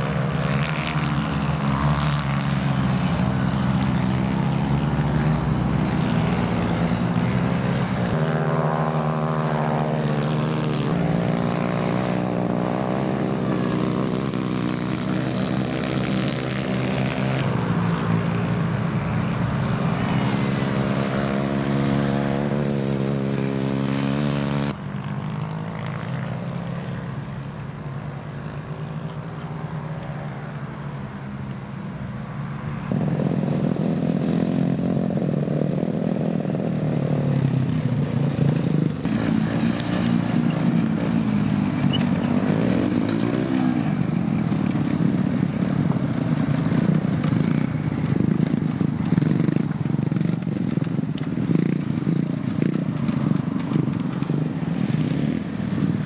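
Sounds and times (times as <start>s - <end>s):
kart engines at high revs: 0.0s - 24.8s, 32.9s - 56.0s.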